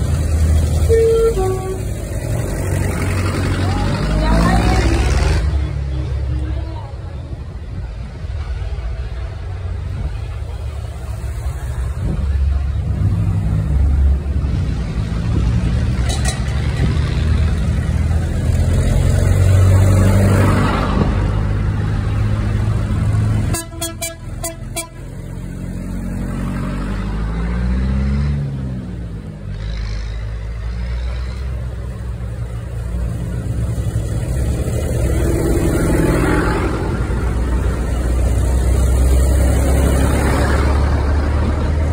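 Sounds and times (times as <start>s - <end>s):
tractor diesel engines: 0.0s - 41.9s.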